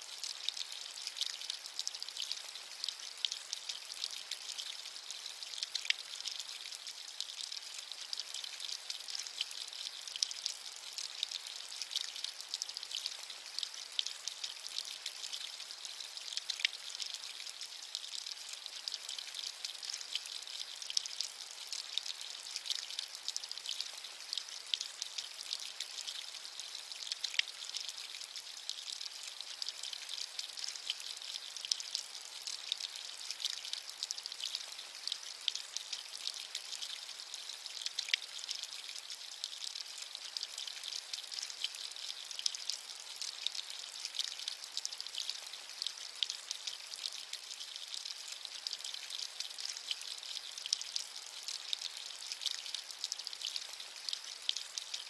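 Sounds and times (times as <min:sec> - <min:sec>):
sharp drip ticks: 0:00.0 - 0:55.0.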